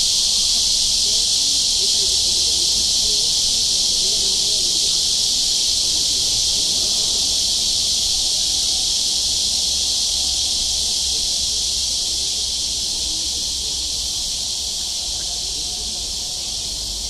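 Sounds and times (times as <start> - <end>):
cicadas buzzing: 0.0 - 17.0
faint voices: 1.6 - 17.0.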